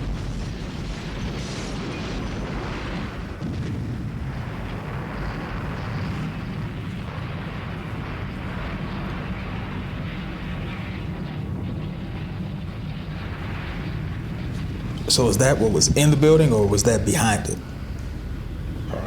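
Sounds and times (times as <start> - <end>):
low rumbling roar: 2.6 - 19.0.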